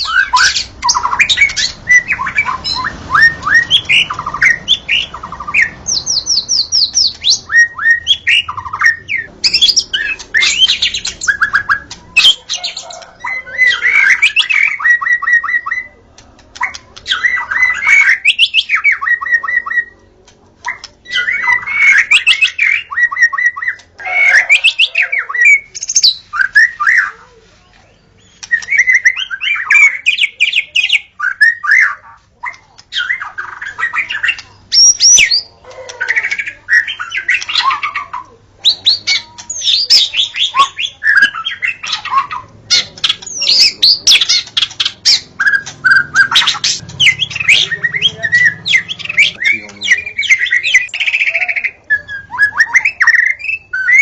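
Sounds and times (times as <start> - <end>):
songbird whistling and chattering: 0.0 - 16.0, 16.6 - 20.0, 20.6 - 27.2, 27.8 - 54.0.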